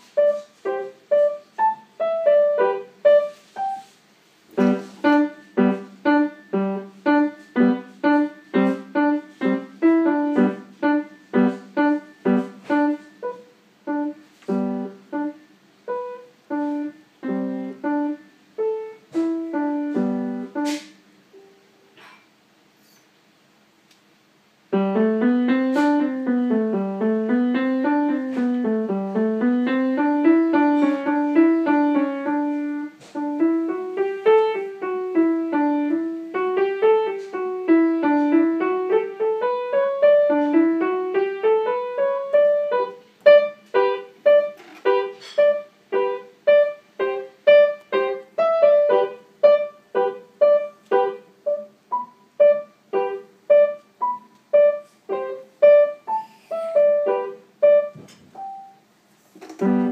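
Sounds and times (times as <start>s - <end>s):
solo piano: 0.0s - 22.2s, 24.6s - 59.9s.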